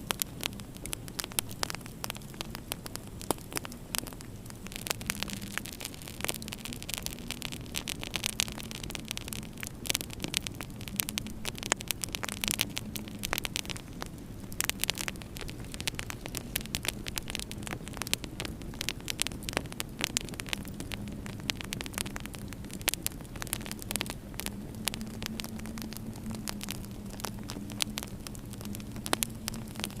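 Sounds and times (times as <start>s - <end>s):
steady low hum: 0.0s - 30.0s
wood fire crackling and popping: 0.0s - 30.0s.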